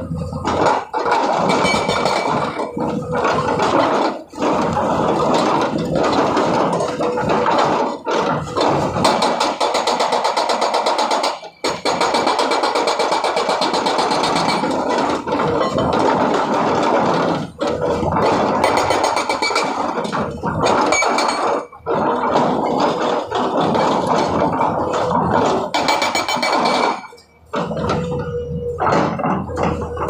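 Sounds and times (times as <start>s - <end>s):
hydraulic rock breaker hammering rock: 0.0s - 30.0s.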